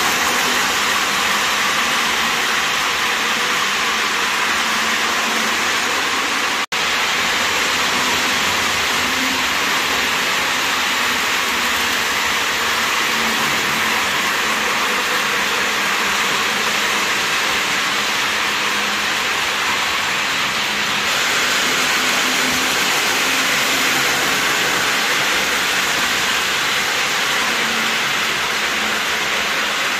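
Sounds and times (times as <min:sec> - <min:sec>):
model train wheels rumbling: 0:00.0 - 0:29.9.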